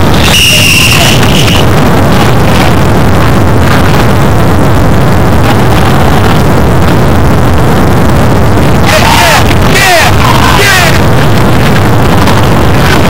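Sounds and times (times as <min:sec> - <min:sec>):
loud low rumbling: 0:00.0 - 0:13.0.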